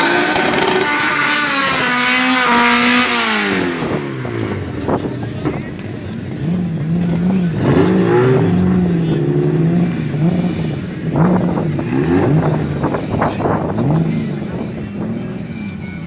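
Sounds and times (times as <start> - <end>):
car engine revving: 0.0 - 15.8.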